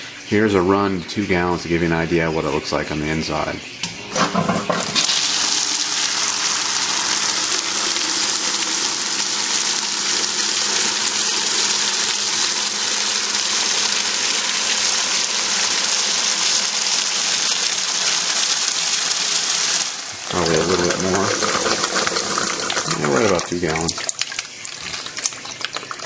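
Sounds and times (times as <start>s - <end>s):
coolant gushing into plastic bucket: 4.1s - 26.0s.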